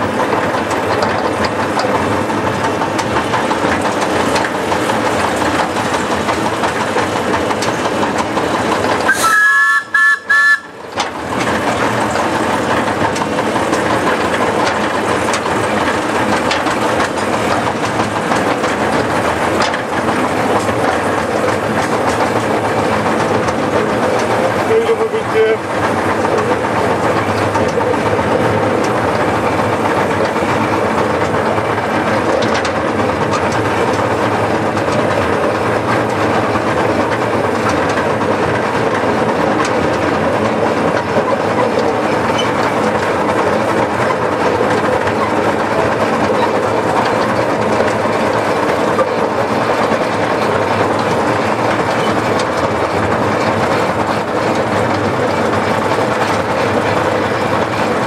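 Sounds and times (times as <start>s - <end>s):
miniature steam locomotive running: 0.0s - 58.0s.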